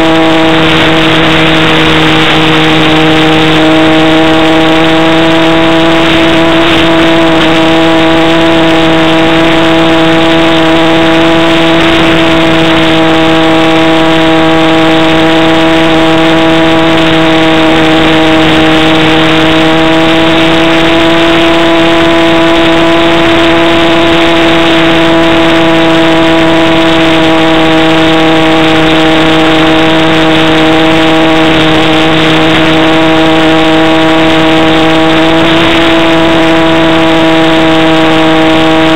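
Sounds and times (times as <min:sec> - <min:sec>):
model plane motor droning: 0:00.0 - 0:38.9.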